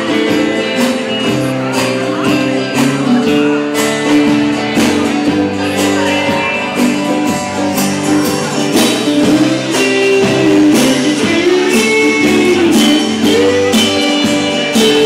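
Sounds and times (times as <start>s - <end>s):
drum kit beat: 0.0s - 15.0s
hand percussion: 0.0s - 15.0s
strummed acoustic guitar: 0.0s - 15.0s.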